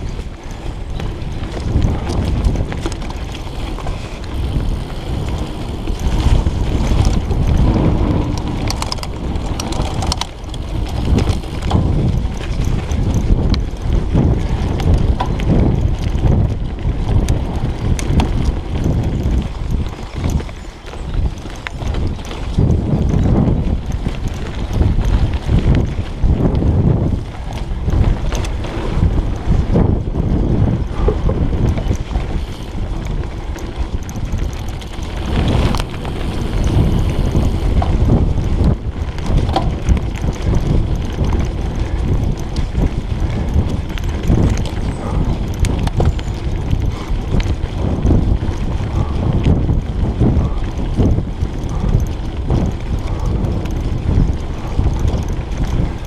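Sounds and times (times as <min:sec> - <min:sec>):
bike knocking and rattling: 0:00.0 - 0:56.0
tyres rumbling on dirt: 0:00.0 - 0:56.0
wind buffeting microphone: 0:00.0 - 0:56.0.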